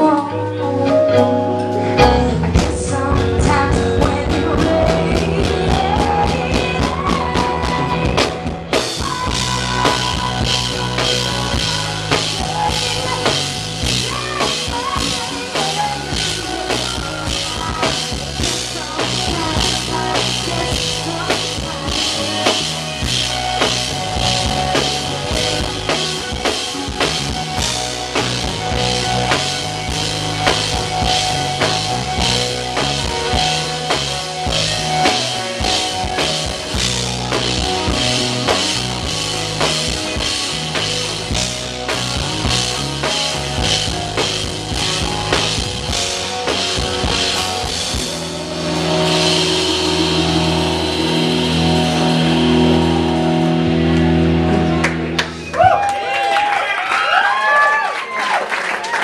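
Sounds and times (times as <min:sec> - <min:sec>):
bass line: 0:00.0 - 0:57.4
electric guitar: 0:00.0 - 0:59.0
drum kit beat: 0:01.6 - 0:55.4.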